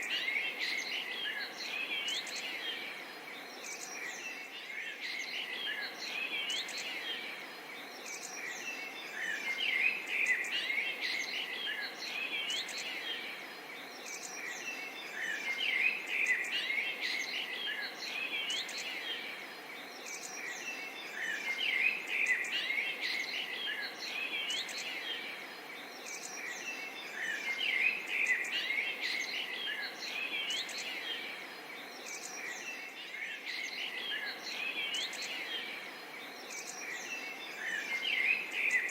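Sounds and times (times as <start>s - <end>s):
faint insect chorus: 0.0s - 38.9s
small birds chirping: 0.0s - 38.9s.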